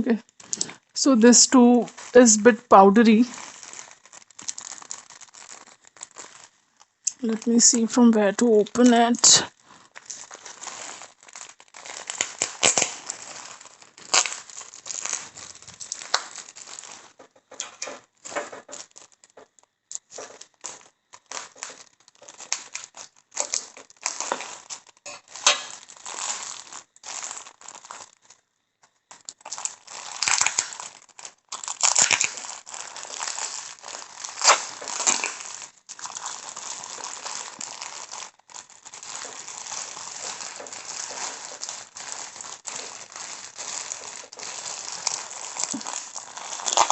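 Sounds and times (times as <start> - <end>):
crinkly packaging rustling: 0.0 - 46.9.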